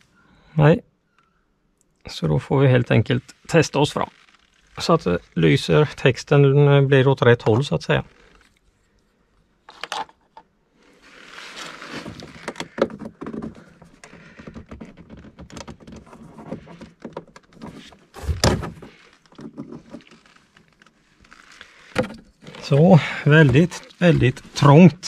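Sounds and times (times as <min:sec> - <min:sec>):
rustling: 0:02.8 - 0:09.9, 0:10.7 - 0:25.0.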